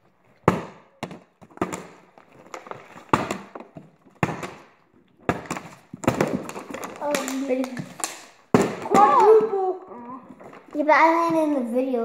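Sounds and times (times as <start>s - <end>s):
plastic bottles hitting rubber floor: 0.2s - 11.7s.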